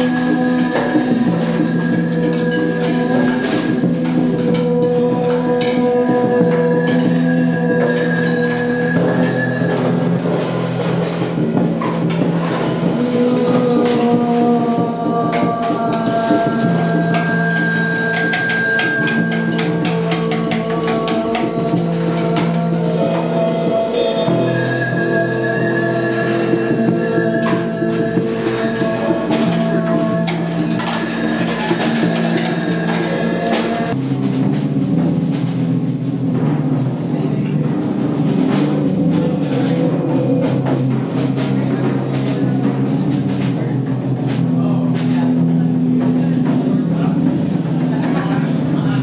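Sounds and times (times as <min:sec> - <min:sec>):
drum and cymbal strikes: 0:00.0 - 0:49.0
noisy percussive hits: 0:00.0 - 0:49.0.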